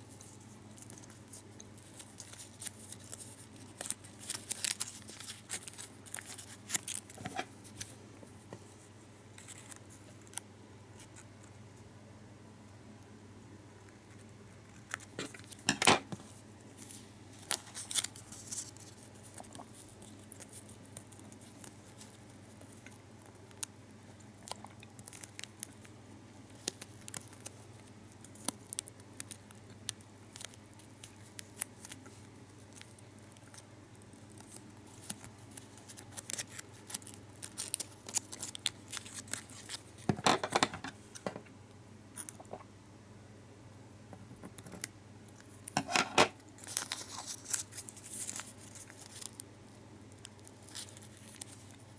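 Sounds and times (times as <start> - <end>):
foil wrapper crinkling: 0.1 - 7.9, 14.2 - 41.2, 44.7 - 51.9.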